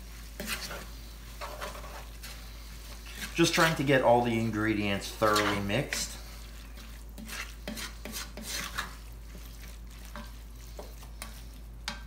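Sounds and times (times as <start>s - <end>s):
wooden spoon scraping a pot: 0.0s - 12.0s.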